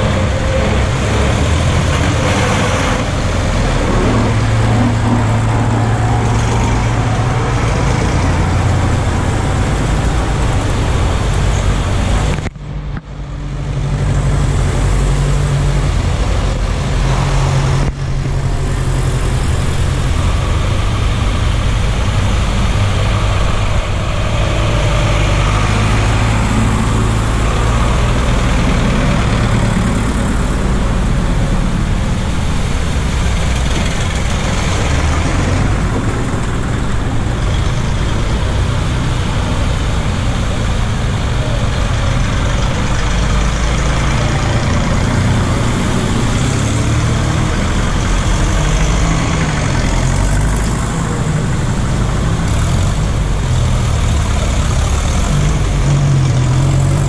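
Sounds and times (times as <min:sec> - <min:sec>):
water washing around wheels: 0:00.0 - 0:12.5, 0:14.0 - 0:57.0
tractor engines running: 0:00.0 - 0:57.0.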